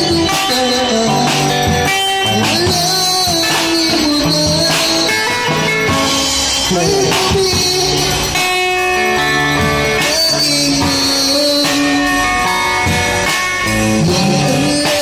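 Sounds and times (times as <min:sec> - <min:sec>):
drum kit with cymbals: 0:00.0 - 0:15.0
guitar music through amplifier: 0:00.0 - 0:15.0.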